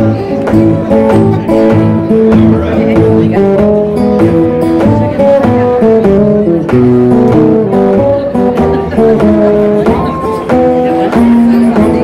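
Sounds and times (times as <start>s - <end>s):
resonator guitar blues playing: 0.0s - 12.0s.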